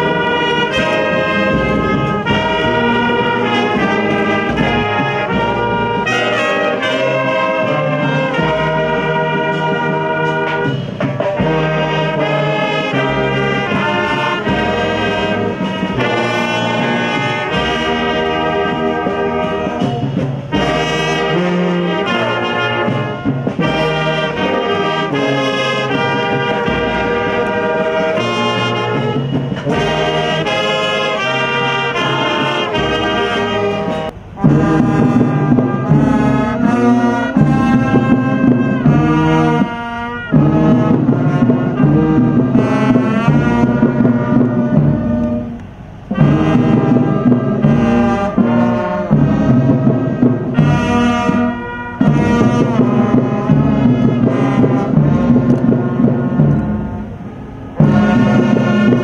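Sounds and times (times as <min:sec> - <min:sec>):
brass band playing slow tune: 0:00.0 - 0:59.0.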